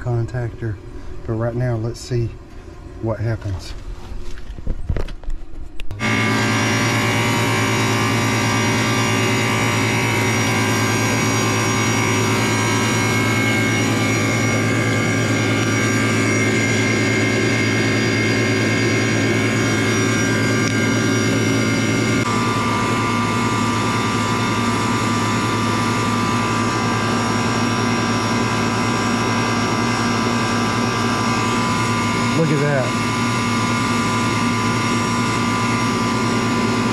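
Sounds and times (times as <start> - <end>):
compressor hum: 0.0 - 36.9
condenser fan rushing: 0.0 - 36.9.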